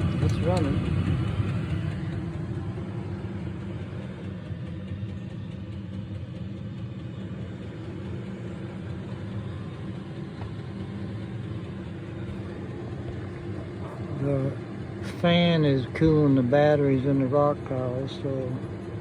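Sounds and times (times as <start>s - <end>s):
air heater humming: 0.0s - 19.0s.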